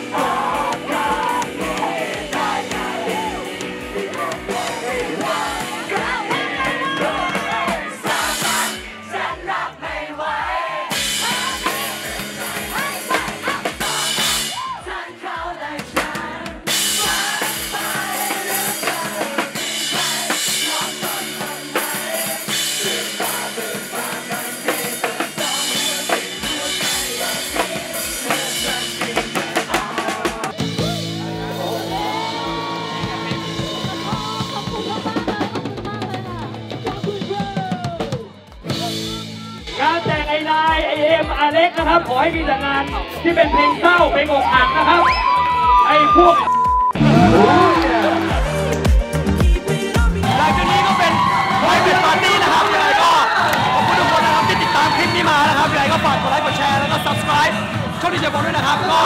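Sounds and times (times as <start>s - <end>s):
band music with singing: 0.0s - 59.0s.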